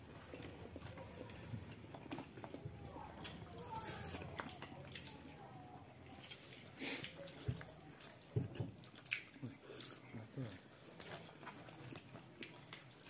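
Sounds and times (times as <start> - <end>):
wet chewing and lip smacks: 0.0 - 13.0.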